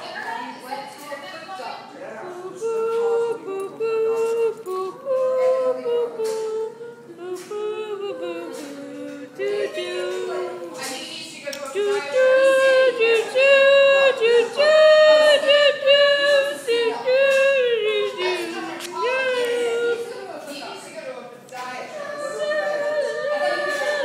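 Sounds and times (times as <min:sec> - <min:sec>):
voices singing unaccompanied: 0:01.8 - 0:24.0.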